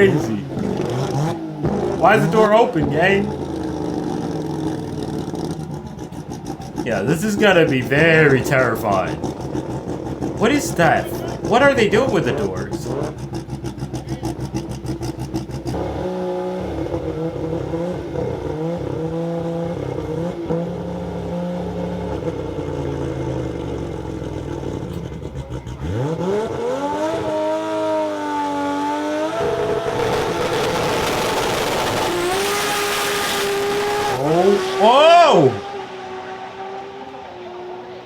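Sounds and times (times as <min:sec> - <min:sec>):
drag car engine revving: 0:00.0 - 0:38.0.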